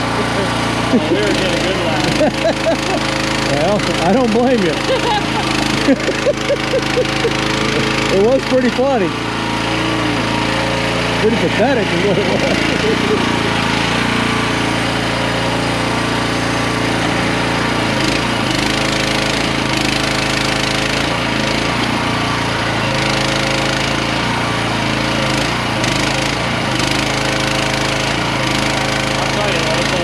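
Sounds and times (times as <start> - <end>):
small excavator engine revving hard: 0.0 - 30.0.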